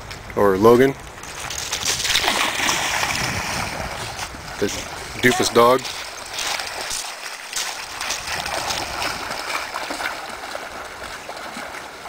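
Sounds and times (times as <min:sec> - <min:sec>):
dog splashing through water: 0:01.3 - 0:12.0
river water rushing: 0:02.0 - 0:12.0.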